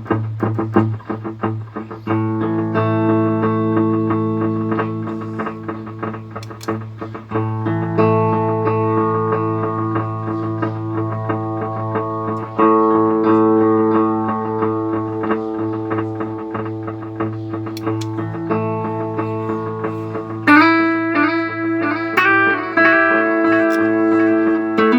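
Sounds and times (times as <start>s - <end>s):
electric guitar chords with delay: 0.0s - 24.9s.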